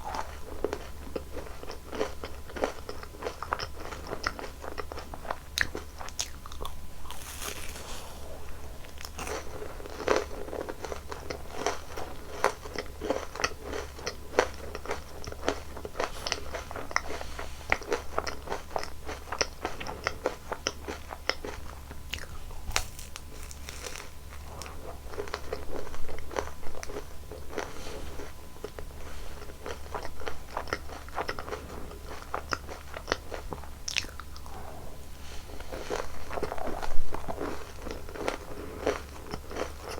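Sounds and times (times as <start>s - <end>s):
crunching and chewing mouth sounds: 0.0s - 39.9s
low steady hum: 0.0s - 39.9s.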